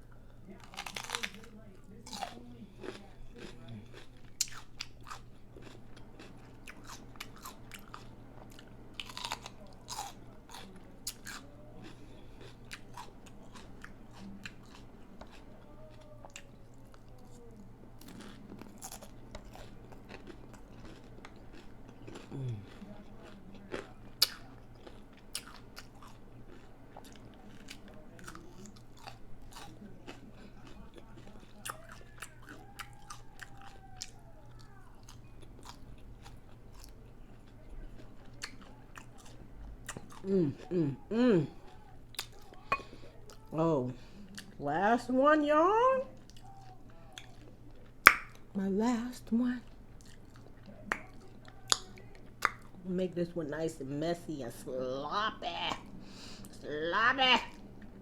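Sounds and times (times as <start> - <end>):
crunchy food chewing: 0.1 - 44.6, 46.0 - 52.8.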